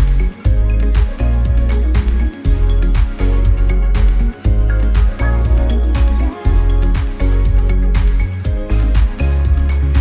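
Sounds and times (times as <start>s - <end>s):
music with strong bass beat: 0.0s - 10.0s.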